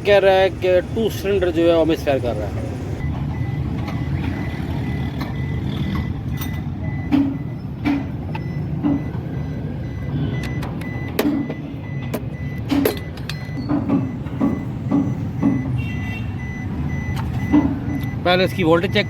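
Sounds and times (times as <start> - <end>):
engine thuds: 0.0 - 19.0
misfiring engine rumble: 0.0 - 19.0.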